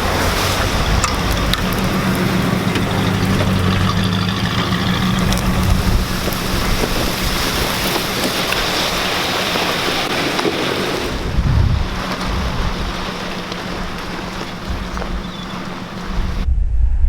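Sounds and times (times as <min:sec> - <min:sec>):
truck engine humming: 0:00.0 - 0:16.5.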